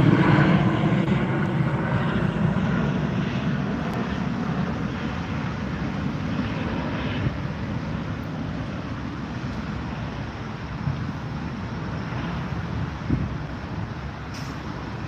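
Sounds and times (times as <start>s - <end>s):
jet aircraft taking off: 0.0s - 15.0s.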